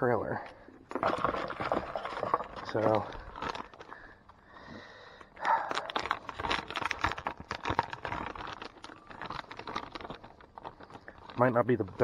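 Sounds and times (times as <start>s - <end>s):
plastic packaging crinkling: 0.8s - 4.4s, 5.2s - 12.0s
tackle clicks and rattles: 0.8s - 4.4s, 5.2s - 12.0s.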